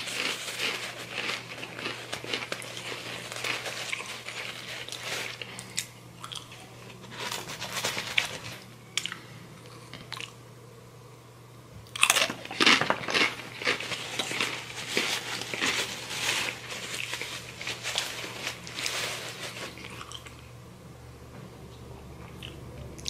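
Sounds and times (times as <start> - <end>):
crunching and chewing chips: 0.0 - 10.4, 11.9 - 20.5.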